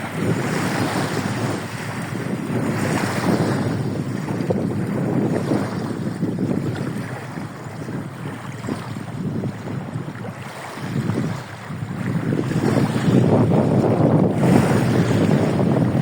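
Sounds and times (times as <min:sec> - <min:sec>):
waves washing on shore: 0:00.0 - 0:16.0.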